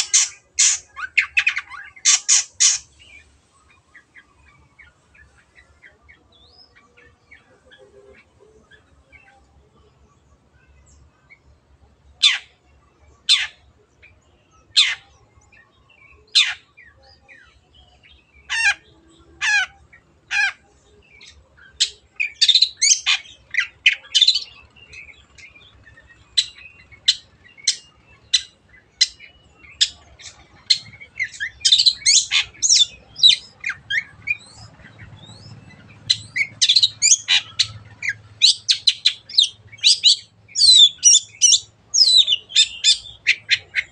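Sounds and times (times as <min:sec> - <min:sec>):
bird harsh calls and chattering: 0:00.0 - 0:10.0, 0:12.1 - 0:43.9.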